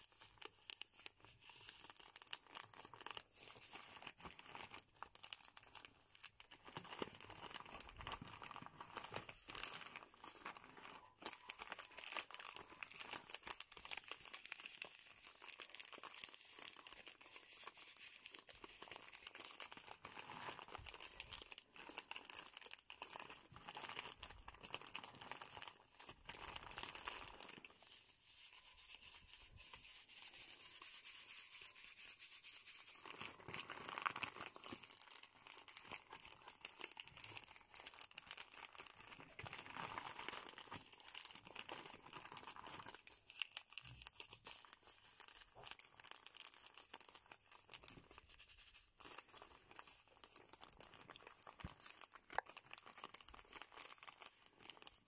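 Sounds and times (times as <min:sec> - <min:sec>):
sachets crinkling and rustling: 0:00.0 - 0:55.0.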